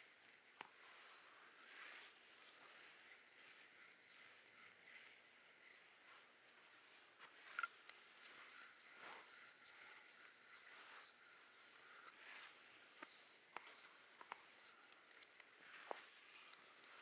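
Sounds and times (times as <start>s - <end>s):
small ticks: 0.0s - 1.0s, 1.6s - 17.0s.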